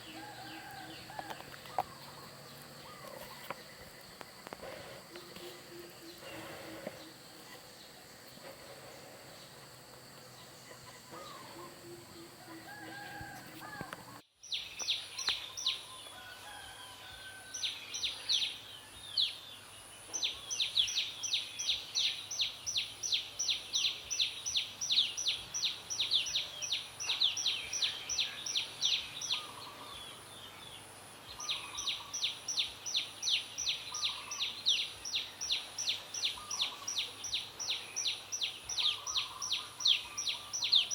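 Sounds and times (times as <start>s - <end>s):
soft bird calls: 0.0s - 16.0s, 20.1s - 40.9s.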